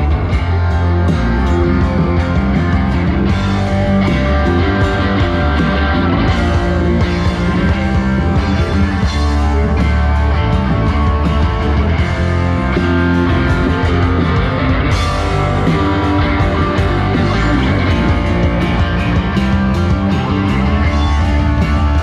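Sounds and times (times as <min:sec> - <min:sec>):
electric guitar: 0:00.0 - 0:22.0
live rock band instrumental: 0:00.0 - 0:22.0.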